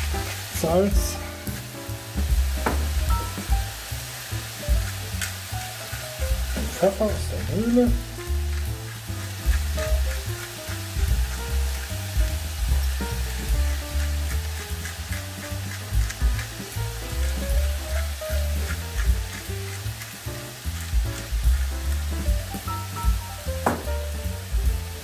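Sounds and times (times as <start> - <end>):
background music with bass: 0.0 - 25.0
meat sizzling in a pot: 0.0 - 25.0
pepper mill grinding: 0.0 - 25.0.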